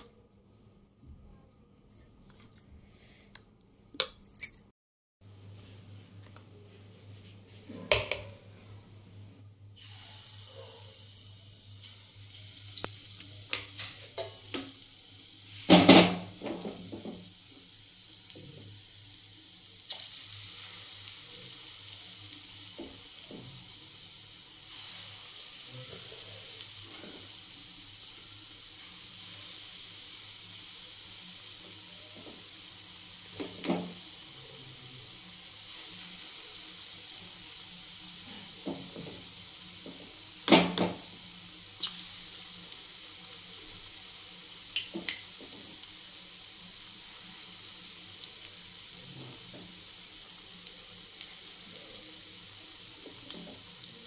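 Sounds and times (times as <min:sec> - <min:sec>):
batter sizzling in hot oil: 0:09.7 - 0:54.0.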